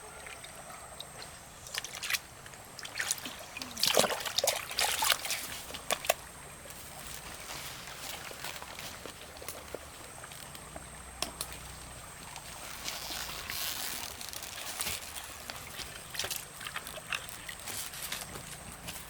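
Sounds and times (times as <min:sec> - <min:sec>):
water trickling and sloshing: 0:00.0 - 0:19.0.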